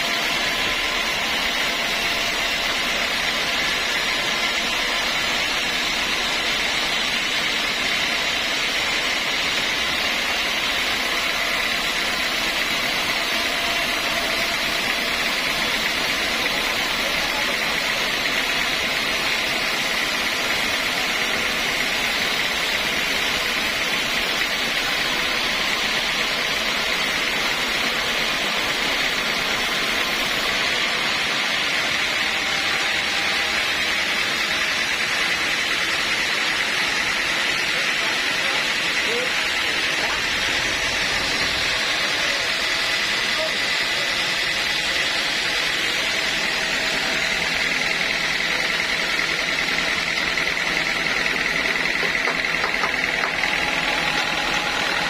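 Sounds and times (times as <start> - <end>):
sawmill saw running: 0.0 - 55.0.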